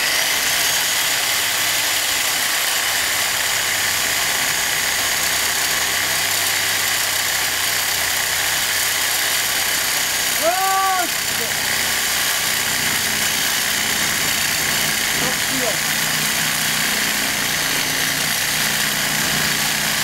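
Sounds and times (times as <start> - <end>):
power saw cutting metal: 0.0 - 20.0.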